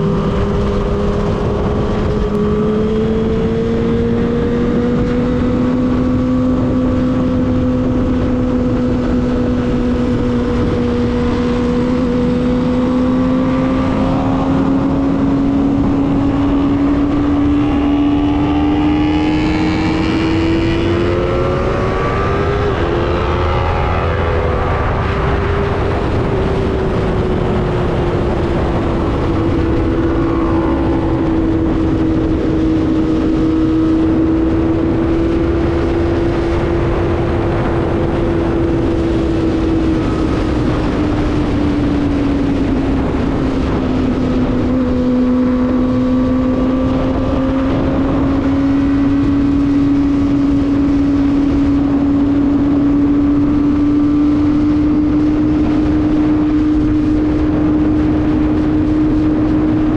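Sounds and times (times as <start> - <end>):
motorcycle engine at high revs: 0.0 - 59.9
wind rushing over microphone: 0.0 - 59.9.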